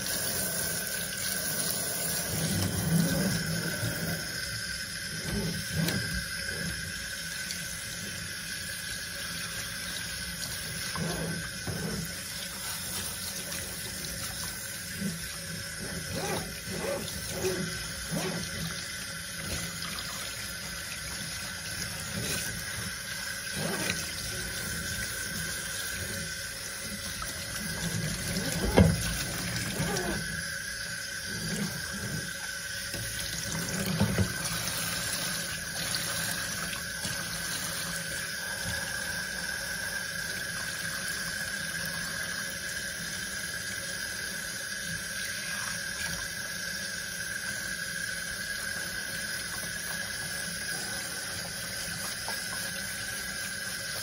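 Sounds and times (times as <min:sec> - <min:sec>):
water spraying into sink: 0:00.0 - 0:54.0.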